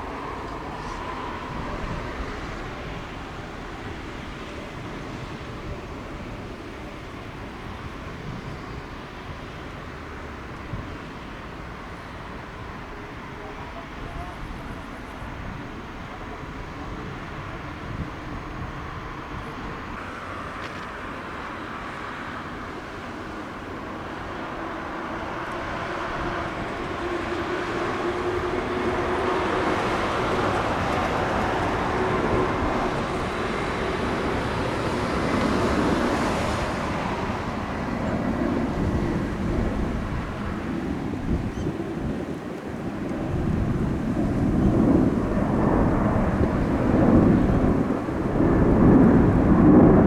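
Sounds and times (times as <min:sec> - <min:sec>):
jet engine roar: 0:00.0 - 0:50.0.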